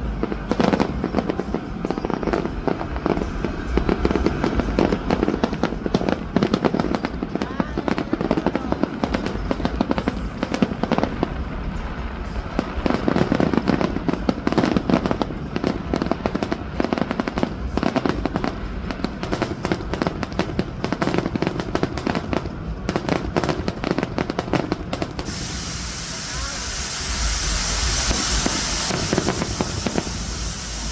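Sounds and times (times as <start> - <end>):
fireworks popping and crackling: 0.0 - 30.9.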